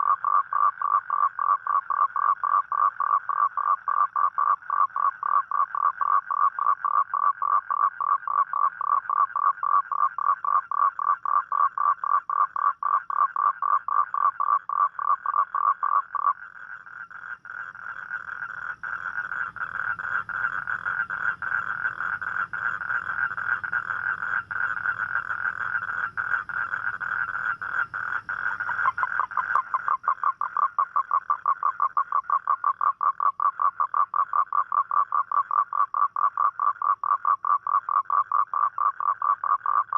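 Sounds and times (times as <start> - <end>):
toad croaking: 0.0 - 39.9
toad trilling: 0.0 - 39.9.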